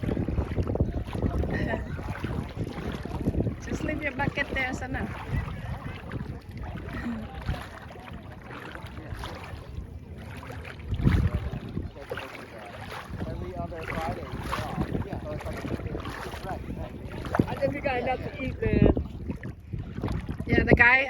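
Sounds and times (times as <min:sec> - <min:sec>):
water sloshing around wading people: 0:00.0 - 0:21.0
wind rumbling on microphone: 0:00.0 - 0:21.0.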